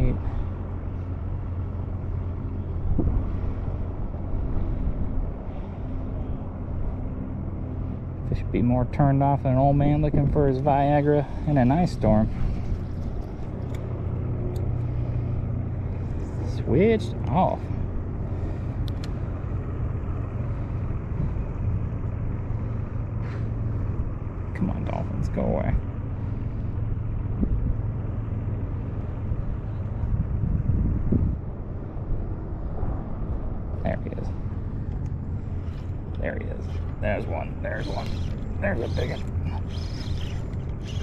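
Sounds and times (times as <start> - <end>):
motorboat engine droning: 0.0 - 41.0
outdoor noise: 0.0 - 41.0.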